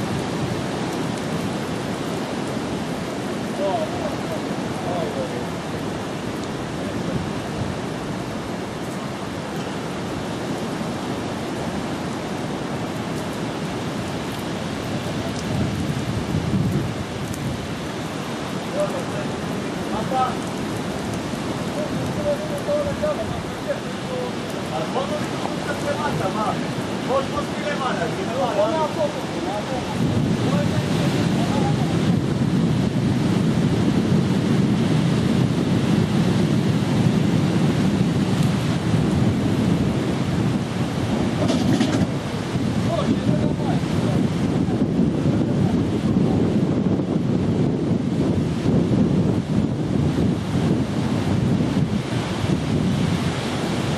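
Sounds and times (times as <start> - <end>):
surf: 0.0 - 53.9
wind rumbling on microphone: 0.0 - 53.9.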